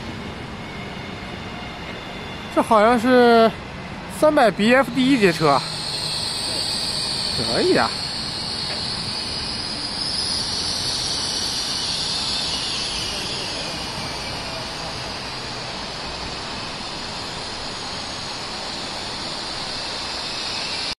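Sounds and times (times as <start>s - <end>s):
electric train rushing hiss: 0.0s - 21.0s.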